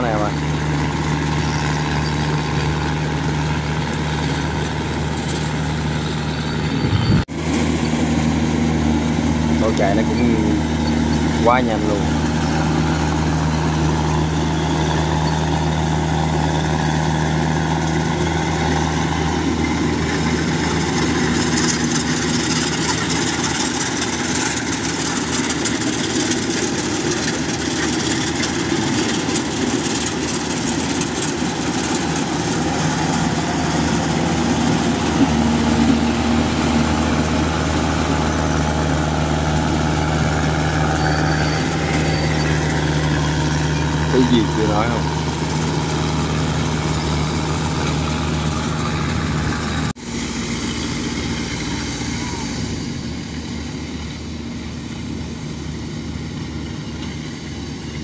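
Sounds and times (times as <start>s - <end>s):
combine harvester diesel engine: 0.0s - 58.0s.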